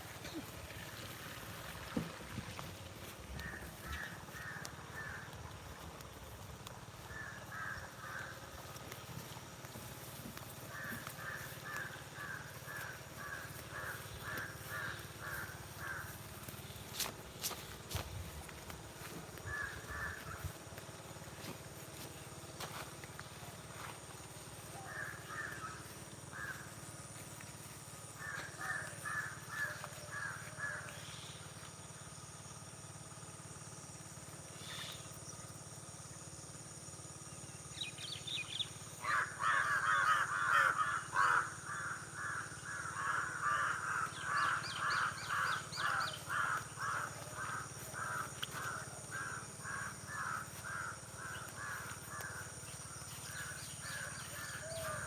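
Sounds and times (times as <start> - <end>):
birds calling: 0.0 - 32.1, 37.0 - 55.0.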